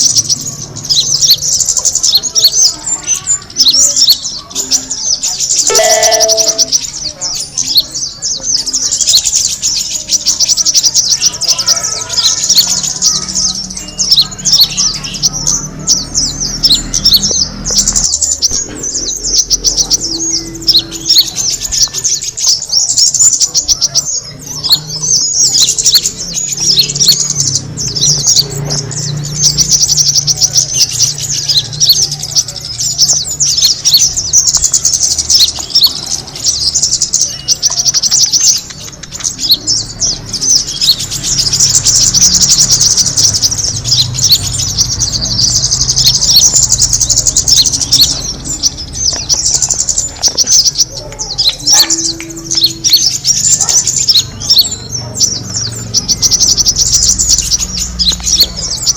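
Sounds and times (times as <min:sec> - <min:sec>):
bird lure call chirps and trills: 0:00.0 - 0:58.9.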